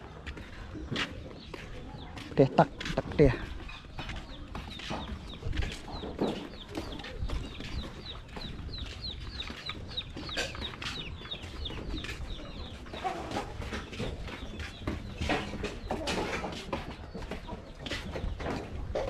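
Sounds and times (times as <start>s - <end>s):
chickens clucking: 0.0s - 19.0s
footsteps on wooden planks: 0.0s - 19.0s.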